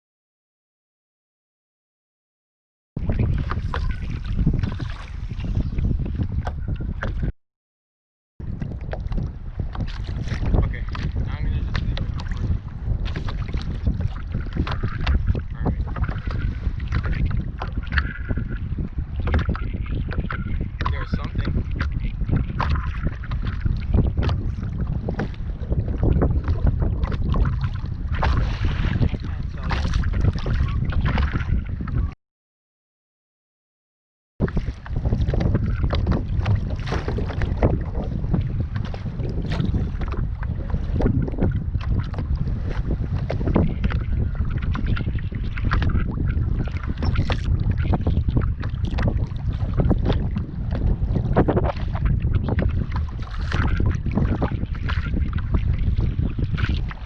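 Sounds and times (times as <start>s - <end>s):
water lapping and splashing: 3.0s - 7.3s, 8.4s - 32.2s, 34.4s - 57.0s
wind buffeting microphone: 3.0s - 7.3s, 8.4s - 32.2s, 34.4s - 57.0s.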